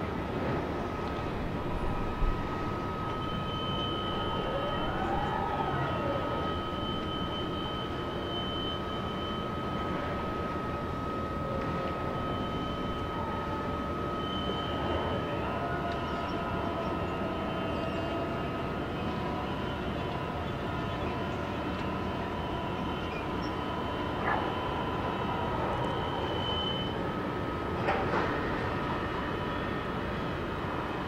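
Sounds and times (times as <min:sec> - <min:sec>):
crane machinery drone: 0:00.0 - 0:31.0
high steady whines: 0:00.0 - 0:31.0.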